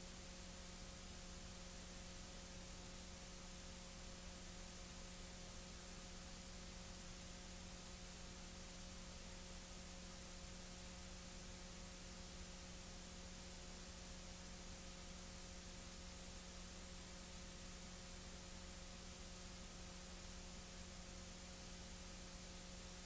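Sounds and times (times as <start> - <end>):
faint steady hiss: 0.0 - 23.0
low electrical hum: 0.0 - 23.0.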